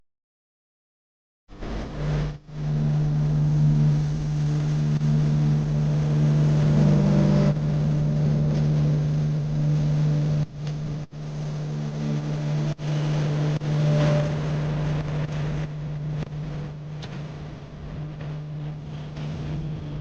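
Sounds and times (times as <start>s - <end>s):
car engine hum: 1.6s - 20.0s.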